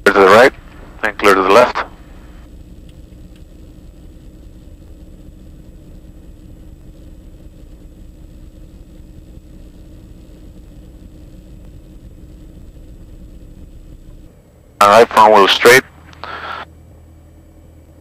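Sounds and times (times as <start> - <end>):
muffled diesel aircraft engines droning: 0.0 - 18.0.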